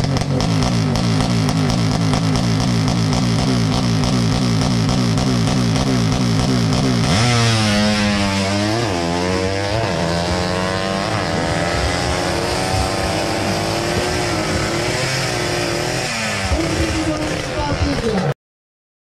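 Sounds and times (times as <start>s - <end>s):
motorcycle accelerating hard: 0.0s - 18.4s.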